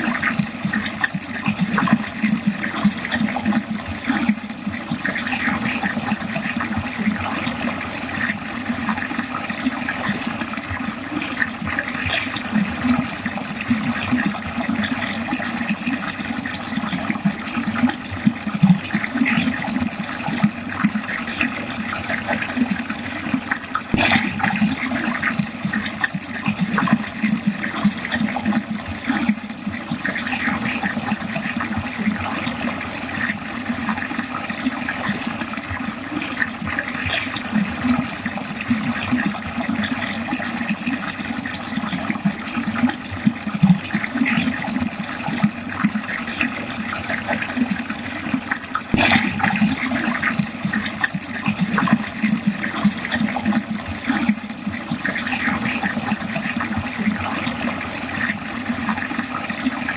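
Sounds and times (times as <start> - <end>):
water running into a drain: 0.0 - 59.9.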